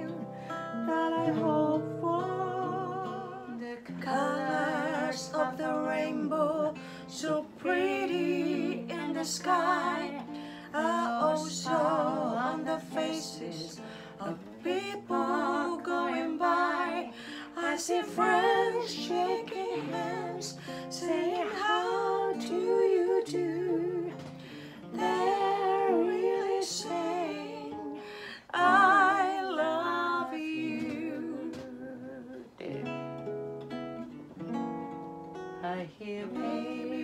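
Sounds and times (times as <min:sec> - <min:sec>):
person singing with vibrato: 0:00.0 - 0:33.2, 0:35.6 - 0:37.0
guitar playing chords: 0:00.0 - 0:37.0.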